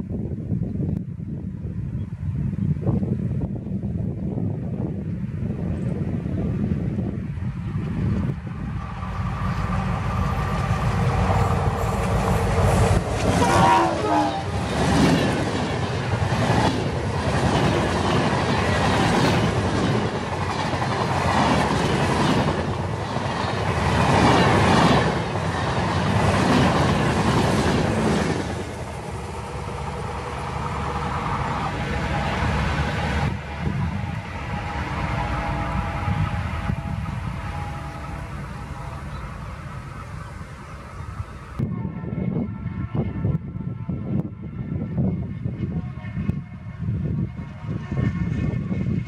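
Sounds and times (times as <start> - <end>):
diesel locomotive passing: 0.0 - 49.0.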